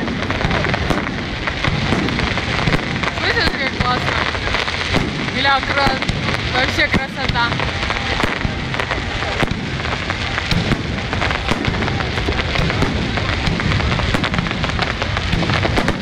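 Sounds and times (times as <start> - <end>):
fireworks bursting with bangs: 0.0 - 16.0
fireworks crackling: 0.0 - 16.0.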